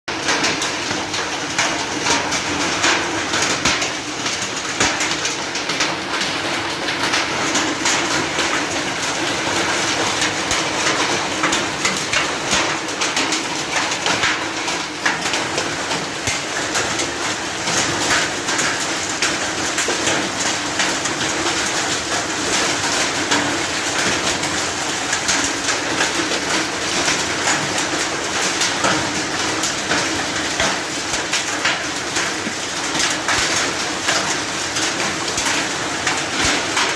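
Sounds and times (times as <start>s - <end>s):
hailstones pelting down: 0.1s - 36.9s.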